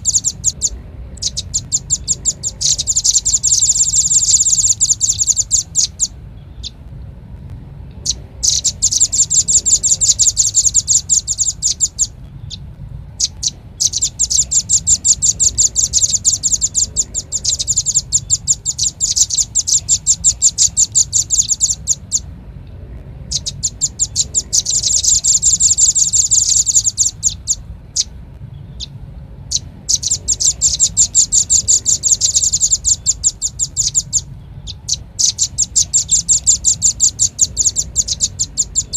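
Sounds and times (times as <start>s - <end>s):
bird chattering trills: 0.0s - 6.9s, 7.9s - 38.9s
faint low hum: 0.0s - 38.9s.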